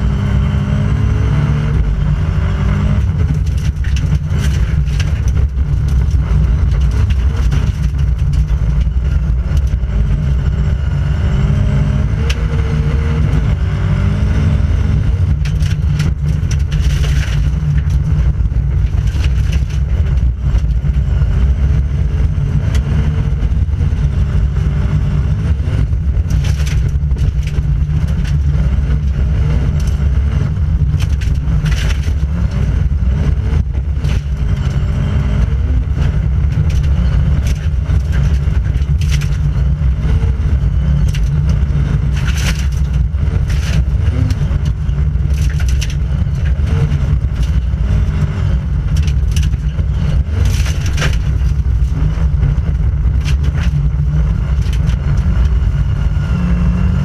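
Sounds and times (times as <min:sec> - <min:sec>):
rally car engine: 0:00.0 - 0:57.0
road rumble: 0:00.0 - 0:57.0
gravel striking underbody: 0:01.6 - 0:10.9, 0:14.5 - 0:57.0.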